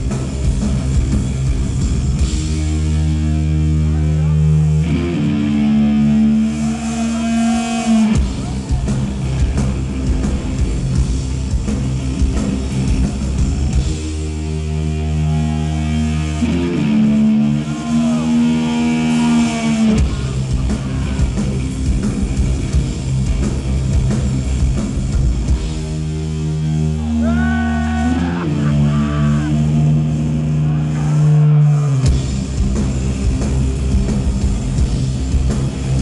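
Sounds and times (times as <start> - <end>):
held low guitar chords: 0.0 - 36.0
rock band playing loud: 0.0 - 36.0.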